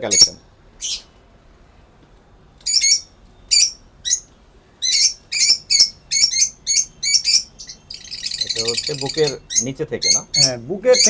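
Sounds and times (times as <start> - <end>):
bird shrill high-pitched calls: 0.1 - 1.1, 2.6 - 11.0.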